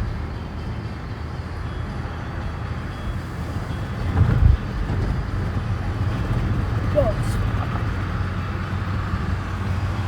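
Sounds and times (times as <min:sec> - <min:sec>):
car driving rumble from inside: 0:00.0 - 0:10.0.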